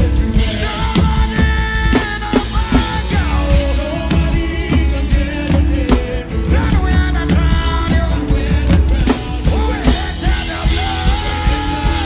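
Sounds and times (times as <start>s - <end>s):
drum kit played hard: 0.0s - 12.0s.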